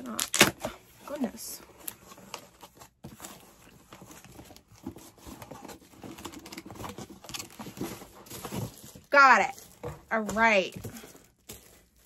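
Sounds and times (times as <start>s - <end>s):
cardboard taps scrapes and rustles: 0.6s - 12.0s.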